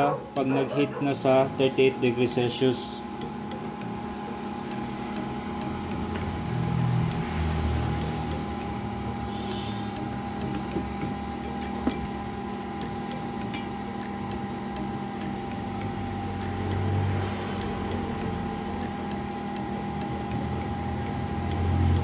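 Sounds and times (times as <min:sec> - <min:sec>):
cooling fan humming: 0:00.0 - 0:22.0.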